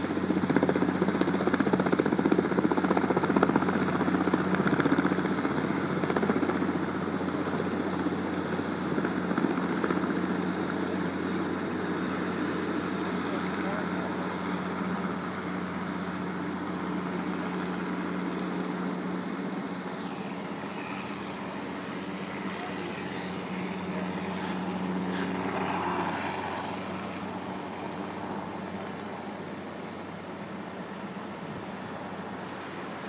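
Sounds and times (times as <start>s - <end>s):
engine drone: 0.0s - 33.0s.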